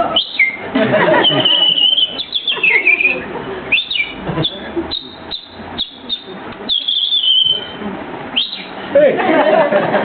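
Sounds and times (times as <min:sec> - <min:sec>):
man whistling bird chirps: 0:00.2 - 0:07.8, 0:08.4 - 0:08.8.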